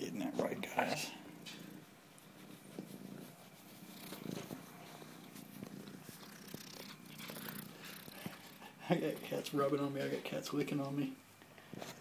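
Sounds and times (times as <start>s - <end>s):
cat purring: 0.0s - 10.7s.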